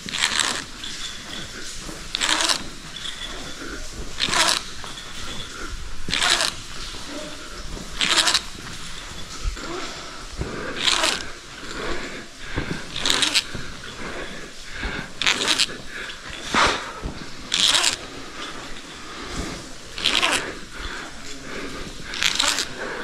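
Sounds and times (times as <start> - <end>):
rope rasping through ascenders: 0.0 - 23.0.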